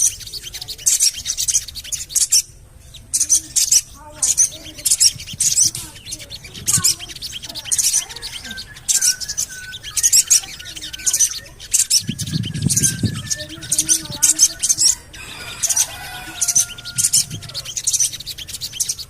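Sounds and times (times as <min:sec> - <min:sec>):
high-pitched bird chirps: 0:00.0 - 0:19.0.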